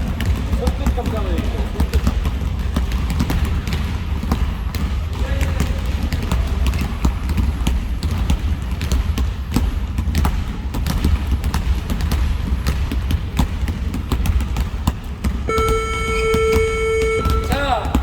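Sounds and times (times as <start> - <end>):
basketballs bouncing on gym floor: 0.0 - 18.0.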